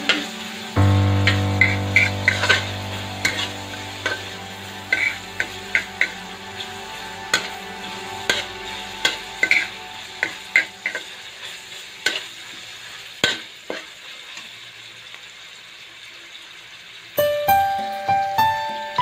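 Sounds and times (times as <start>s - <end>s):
food sizzling in oil in a wok: 0.0s - 18.0s.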